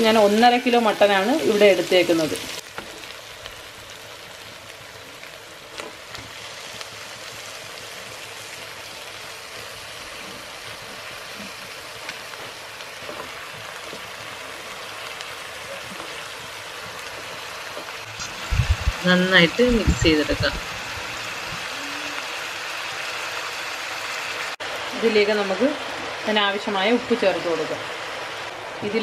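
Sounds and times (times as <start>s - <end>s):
onions and meat sizzling: 0.0s - 29.0s.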